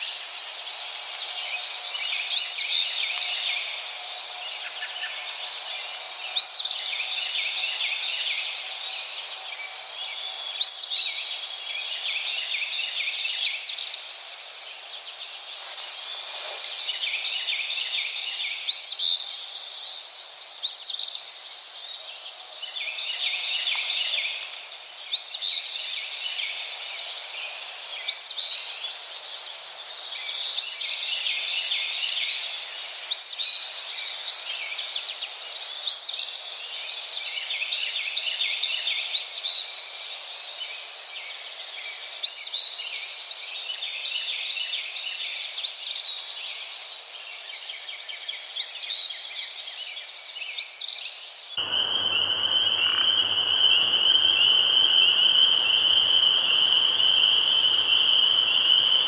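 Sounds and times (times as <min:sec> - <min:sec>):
birdsong chorus: 0:00.0 - 0:59.0.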